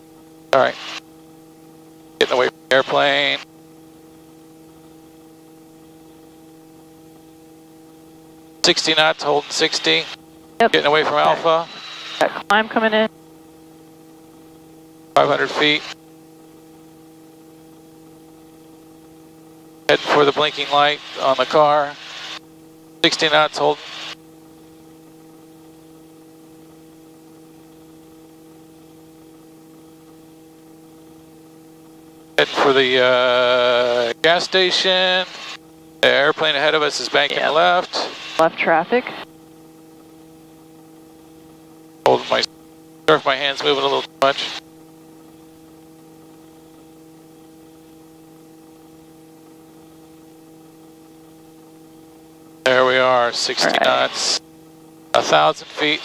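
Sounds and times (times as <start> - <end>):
helicopter droning hum: 0.0 - 56.0.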